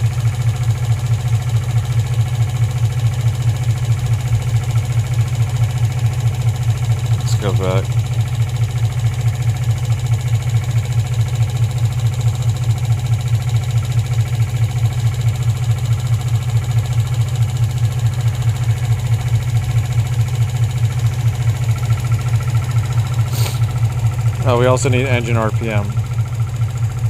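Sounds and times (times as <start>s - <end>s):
car engine idling with misfire: 0.0s - 27.0s.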